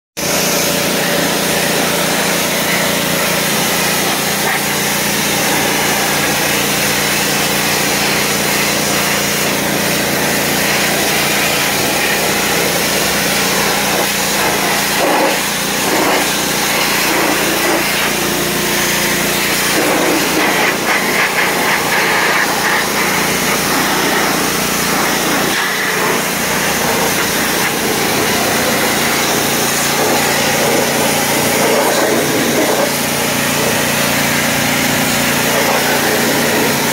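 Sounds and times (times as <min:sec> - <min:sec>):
high-pressure water jet hissing: 0:00.2 - 0:36.9
pressure washer engine humming: 0:00.2 - 0:36.9.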